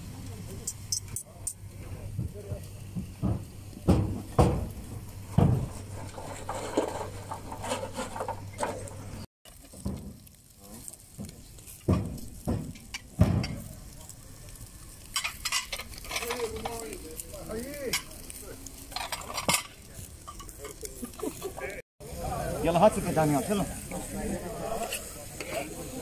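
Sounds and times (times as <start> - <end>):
meat sizzling on charcoal grill: 0.0 - 26.0.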